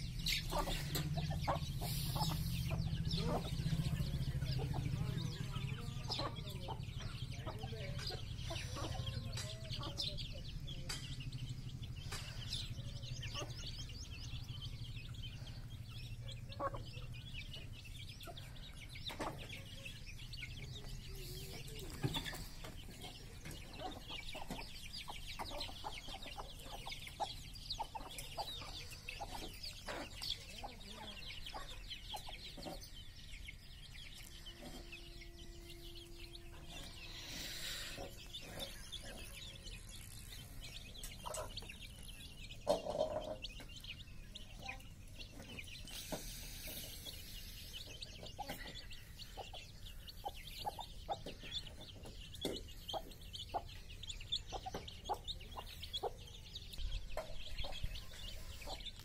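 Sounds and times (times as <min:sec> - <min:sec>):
chicks peeping: 0:00.0 - 0:59.0
hens clucking: 0:00.0 - 0:59.0.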